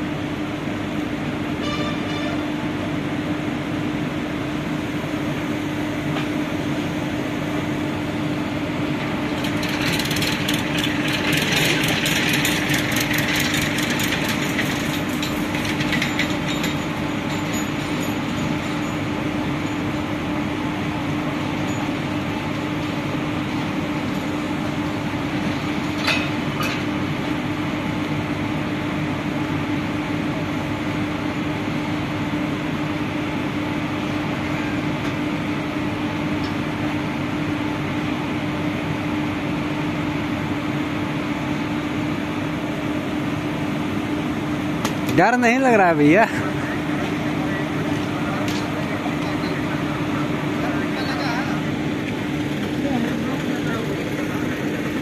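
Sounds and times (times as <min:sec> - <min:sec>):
locomotive machinery hum: 0:00.0 - 0:55.0.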